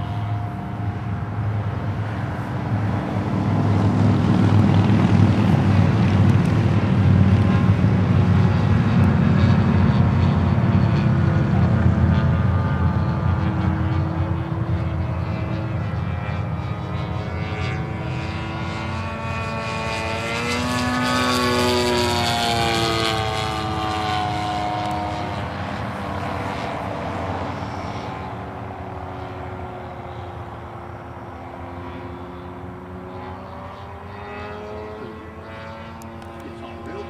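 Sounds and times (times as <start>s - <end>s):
model plane engine droning: 0.0s - 37.0s.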